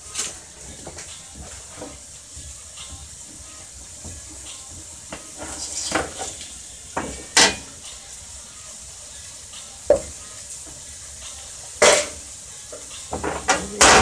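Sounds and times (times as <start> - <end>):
utensils clinking against pot: 0.0 - 8.2, 9.5 - 14.0
onions sizzling in butter: 0.0 - 14.0.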